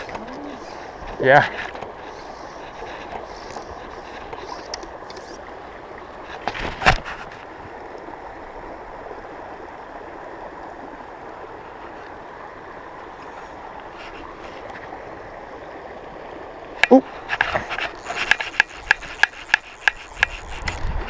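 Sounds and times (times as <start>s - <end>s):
mountain stream rushing: 0.0s - 21.0s.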